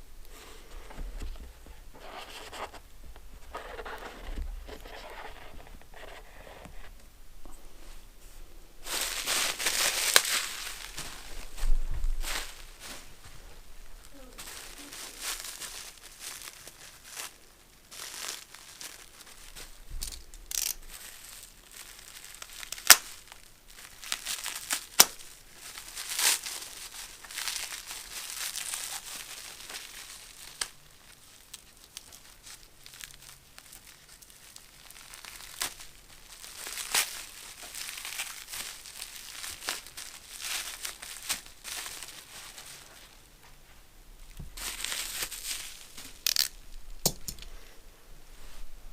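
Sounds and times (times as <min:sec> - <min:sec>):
packaging crinkling and rustling: 0:00.7 - 0:07.0, 0:08.8 - 0:13.4, 0:14.0 - 0:43.3, 0:44.2 - 0:47.5.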